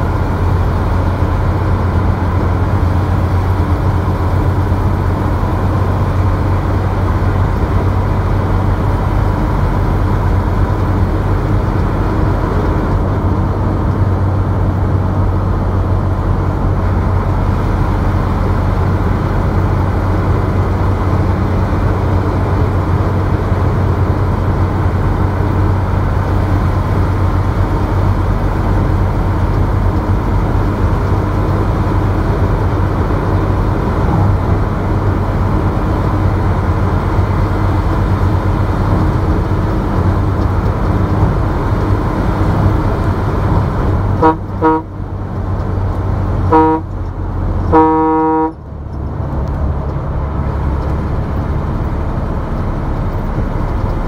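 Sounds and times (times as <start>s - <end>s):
tyre noise on highway: 0.0s - 54.0s
vehicle engine drone: 0.0s - 54.0s.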